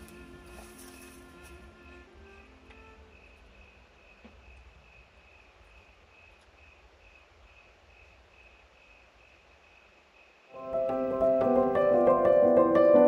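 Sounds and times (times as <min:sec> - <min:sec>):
crickets chirping: 0:00.0 - 0:10.7.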